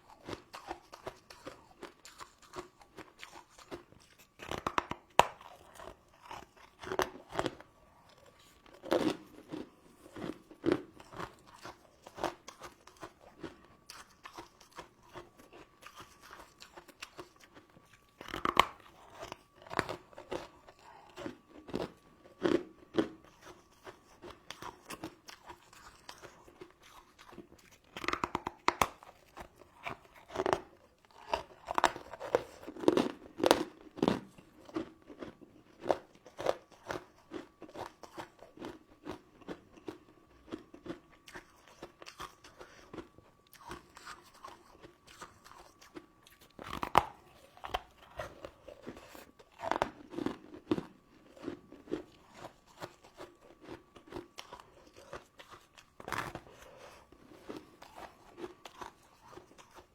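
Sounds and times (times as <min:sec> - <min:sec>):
crunchy candy chewing: 0:00.0 - 0:59.9
faint steady hum: 0:00.0 - 0:59.9.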